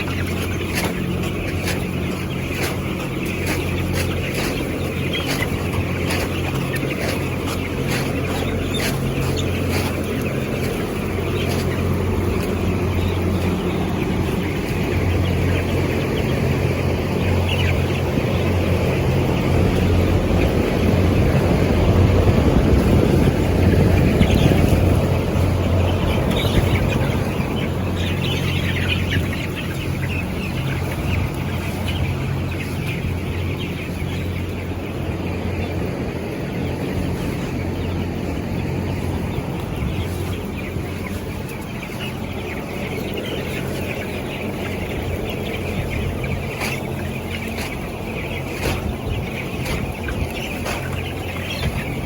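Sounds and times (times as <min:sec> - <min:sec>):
chickens chirping: 0:00.0 - 0:52.0
ventilation fans droning: 0:00.0 - 0:52.0.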